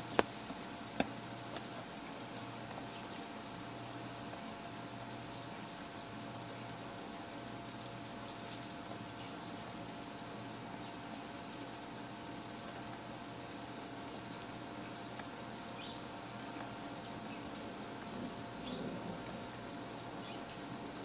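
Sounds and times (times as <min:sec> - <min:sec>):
faint constant hum: 0:00.0 - 0:21.0
steady background hiss: 0:00.0 - 0:21.0.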